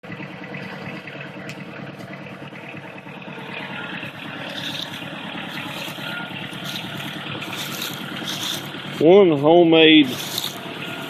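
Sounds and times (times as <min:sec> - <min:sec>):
tractor engine pulsing: 0:00.0 - 0:11.0.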